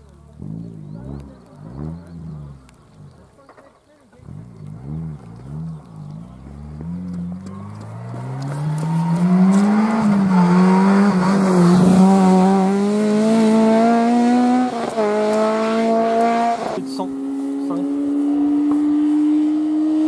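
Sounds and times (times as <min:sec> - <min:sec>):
rally car engine revving: 0:00.3 - 0:20.0.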